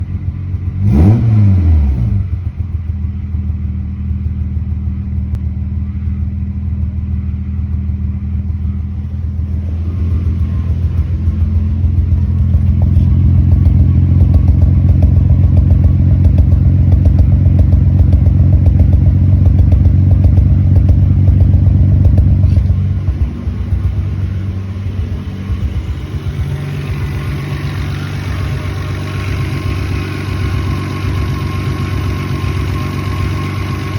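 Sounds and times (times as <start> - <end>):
car engine idling roughly: 0.0 - 1.1, 2.4 - 33.9.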